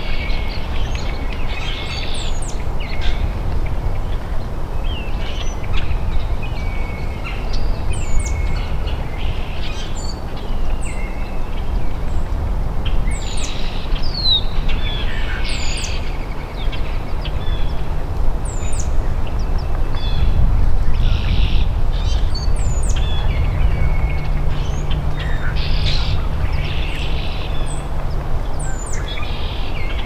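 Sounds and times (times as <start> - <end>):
low outdoor rumble: 0.0 - 30.0
wild birds chirping: 0.0 - 30.0.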